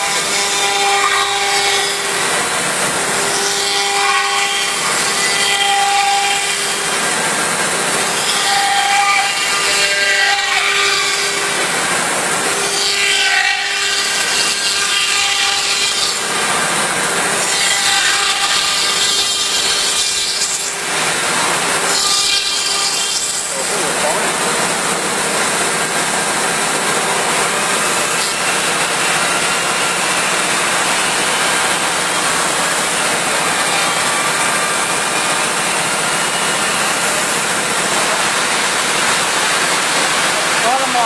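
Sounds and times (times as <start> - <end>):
wood router spindle whine: 0.0 - 41.0.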